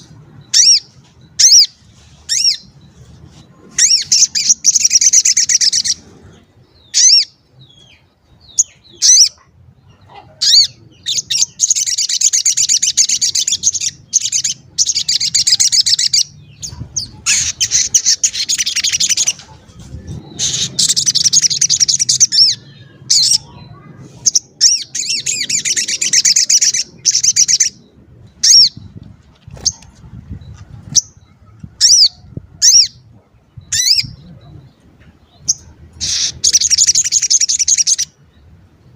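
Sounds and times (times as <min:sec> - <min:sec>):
bird twittering trills: 0:00.0 - 0:38.9.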